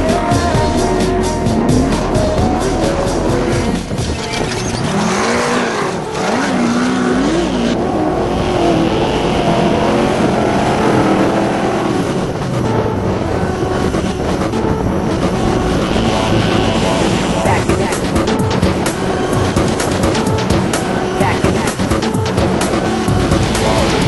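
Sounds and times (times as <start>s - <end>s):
race vehicle engine revving: 0.0s - 24.0s
road and drivetrain noise: 0.0s - 24.0s.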